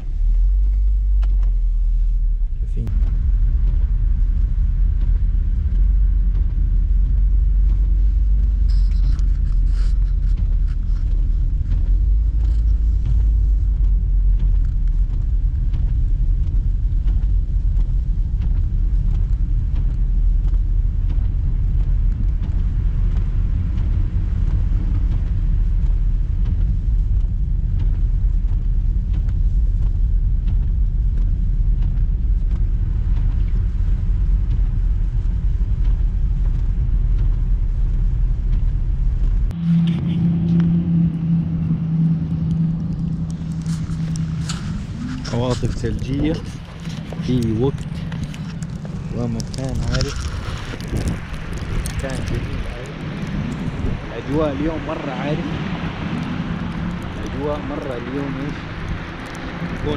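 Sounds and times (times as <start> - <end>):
strong wind rumbling: 0.0 - 59.9.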